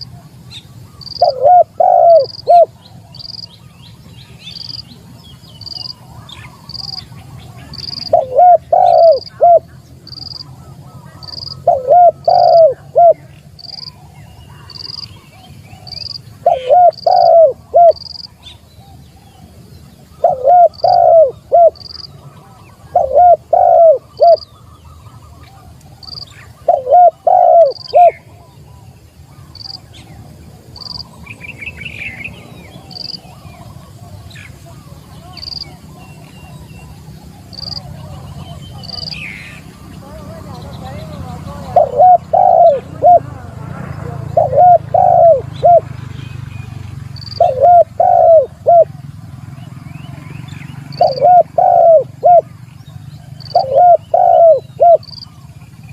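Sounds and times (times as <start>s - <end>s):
dove cooing: 0.0s - 3.6s, 5.6s - 19.0s, 20.0s - 31.1s, 32.1s - 46.0s, 47.1s - 49.1s, 50.8s - 52.6s, 53.2s - 55.9s.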